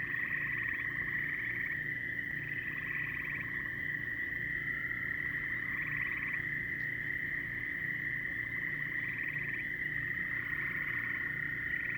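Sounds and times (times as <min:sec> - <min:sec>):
chorus of frogs calling: 0:00.0 - 0:11.9
pulsed frog trills: 0:00.0 - 0:11.9.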